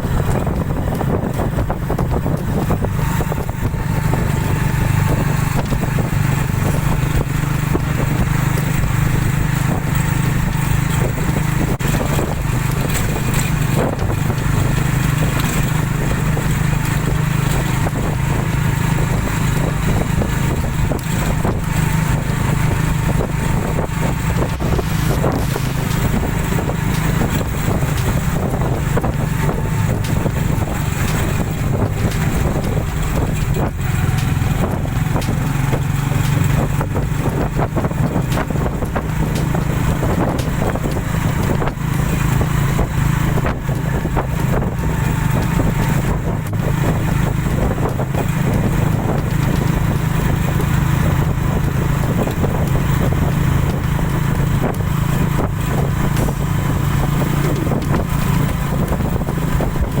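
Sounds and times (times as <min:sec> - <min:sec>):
knocks and rattles: 0:00.0 - 1:00.0
vehicle engine drone: 0:00.0 - 1:00.0
wind noise on microphone: 0:00.0 - 1:00.0.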